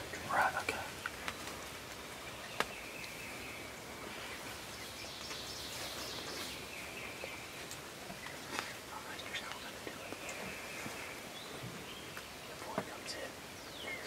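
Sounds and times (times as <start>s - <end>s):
woodland ambience: 0.0s - 14.0s.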